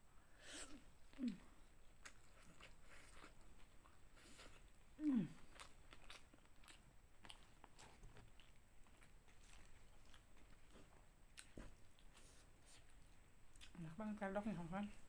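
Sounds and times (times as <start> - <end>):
person chewing: 0.5 - 13.8.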